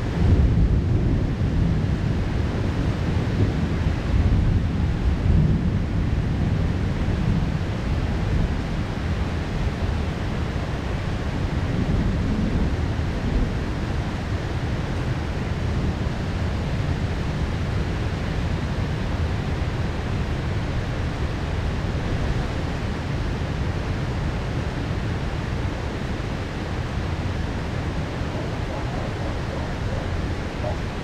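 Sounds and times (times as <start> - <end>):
heavy rain downpour: 0.0 - 31.0.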